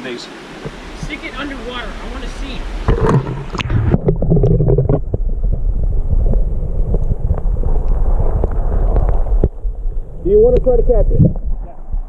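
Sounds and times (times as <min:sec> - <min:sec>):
wind buffeting microphone: 0:00.4 - 0:12.0.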